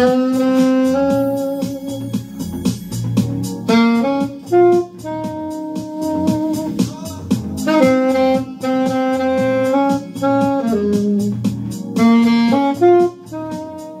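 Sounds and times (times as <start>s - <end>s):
alto saxophone melody: 0.0s - 14.0s
pop backing track with steady beat: 0.0s - 14.0s.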